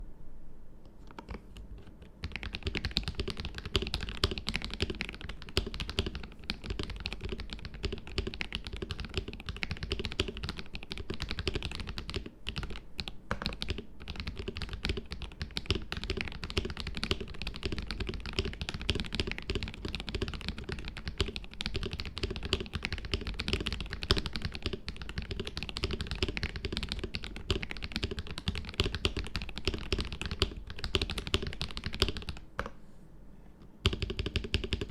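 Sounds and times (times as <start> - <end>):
mechanical keyboard typing: 1.0 - 32.8, 33.8 - 34.9.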